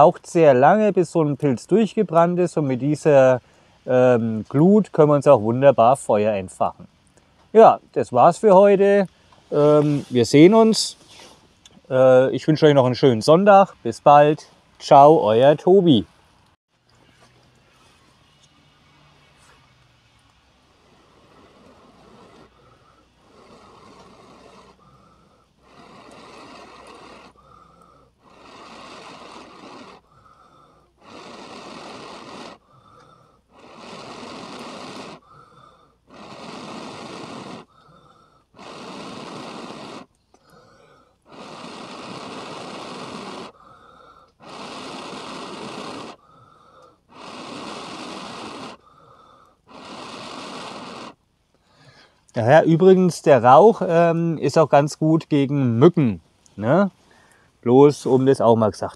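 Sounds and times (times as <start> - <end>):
man blowing on ember: 0.0 - 12.3, 16.0 - 58.4.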